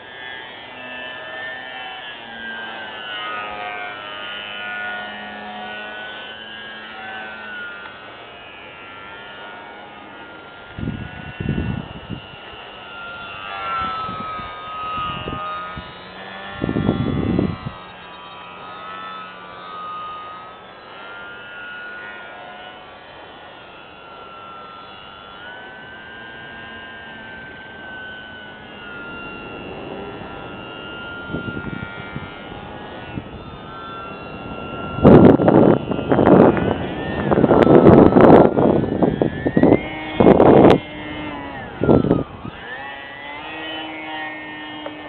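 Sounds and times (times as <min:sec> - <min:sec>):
electric model plane motor whining: 0:00.0 - 0:45.0.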